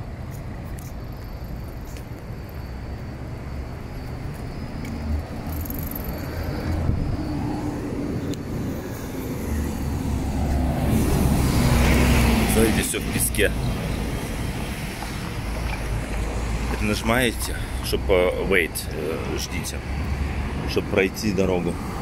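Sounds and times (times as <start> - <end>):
bus passing close: 0.0 - 22.0
cars driving past: 0.0 - 22.0.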